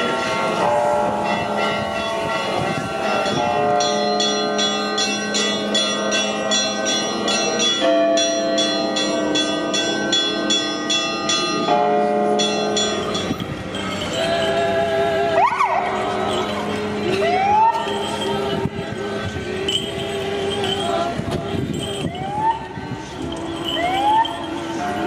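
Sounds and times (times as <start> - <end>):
held bell tones ringing: 0.0 - 25.0
small bells struck rapidly: 0.1 - 15.2, 15.9 - 25.0.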